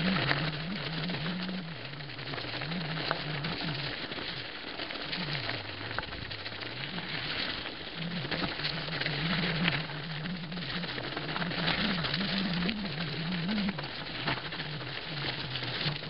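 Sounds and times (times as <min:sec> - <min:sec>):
bike tyres crackling on leaves: 0:00.0 - 0:16.0.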